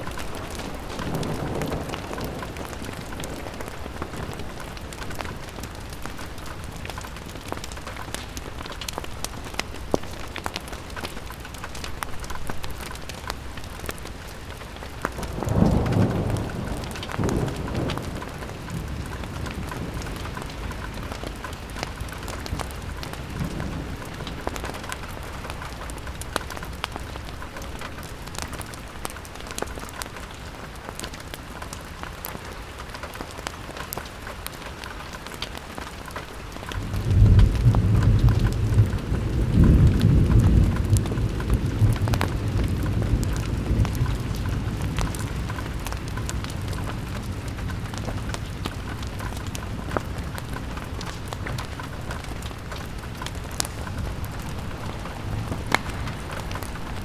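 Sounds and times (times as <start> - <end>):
rain pattering on window: 0.0 - 57.0.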